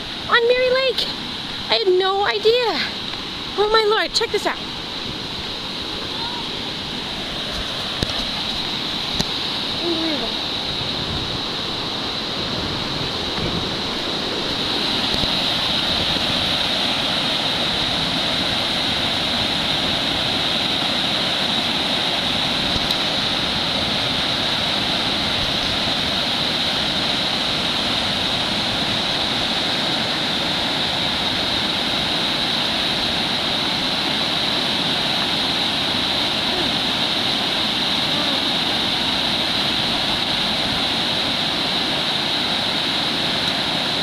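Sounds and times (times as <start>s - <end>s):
water rushing over rocky falls: 0.0s - 44.0s.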